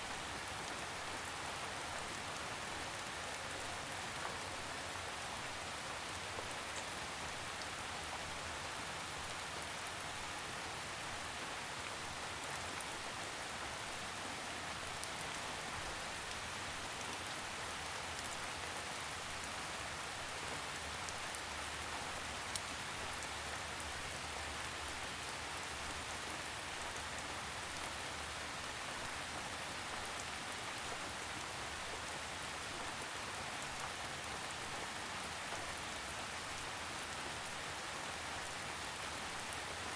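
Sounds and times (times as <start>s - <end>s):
rain pattering on leaves: 0.1s - 39.9s.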